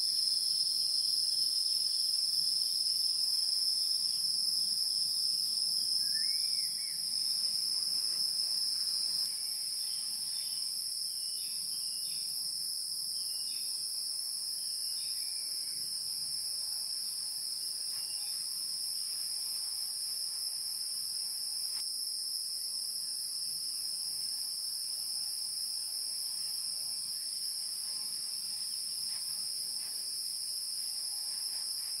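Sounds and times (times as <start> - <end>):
insect chorus: 0.0 - 32.0.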